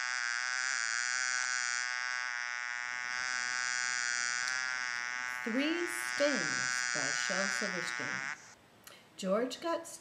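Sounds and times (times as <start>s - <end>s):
bee buzzing: 0.0s - 8.6s.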